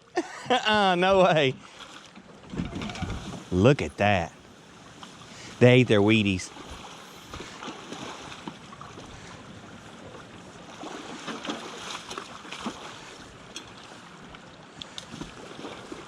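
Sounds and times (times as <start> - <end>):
river water running: 0.0 - 16.0.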